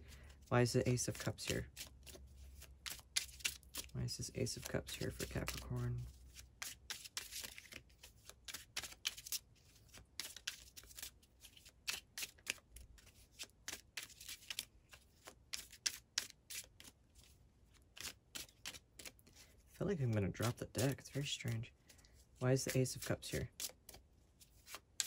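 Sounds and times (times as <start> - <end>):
cards being shuffled: 0.3 - 25.0.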